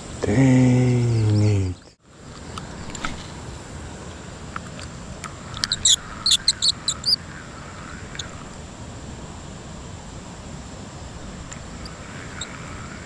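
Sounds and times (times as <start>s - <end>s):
small bird chirping: 0.8s - 10.0s, 10.8s - 13.0s.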